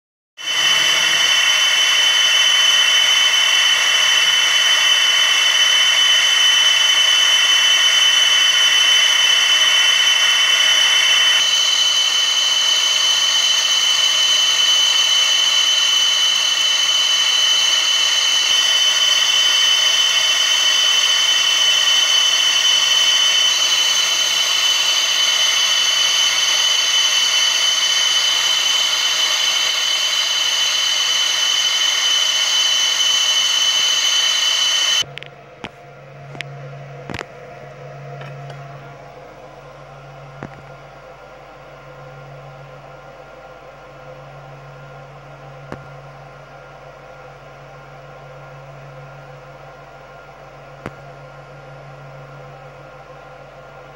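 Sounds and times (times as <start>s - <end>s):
laser engraver high whine: 0.4s - 53.9s.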